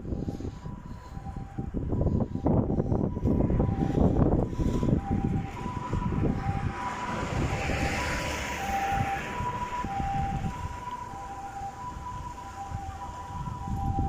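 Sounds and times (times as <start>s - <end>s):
two-tone emergency siren: 0.0s - 14.0s
wind rumbling on microphone: 0.0s - 14.0s.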